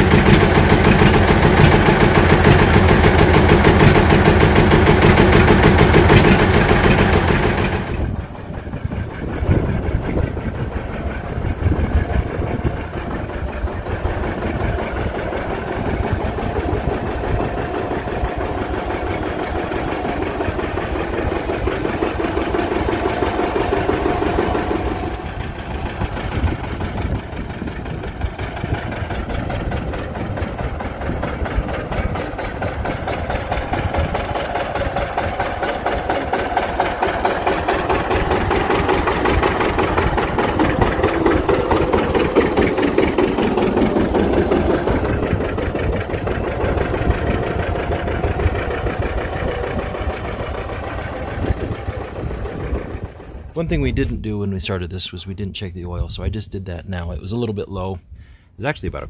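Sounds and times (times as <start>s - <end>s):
tractor diesel engine idling: 0.0s - 55.4s.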